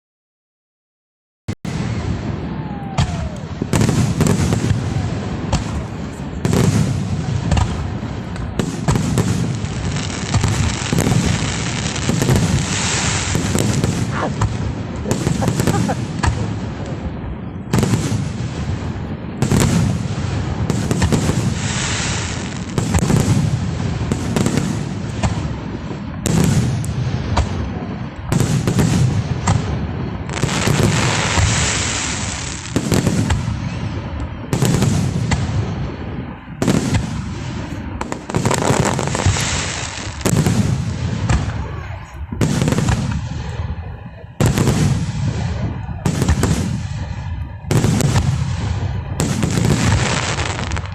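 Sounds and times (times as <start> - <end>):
fireworks bangs with echoing rumble: 1.7 - 50.9
fireworks crackling hiss: 1.7 - 50.9.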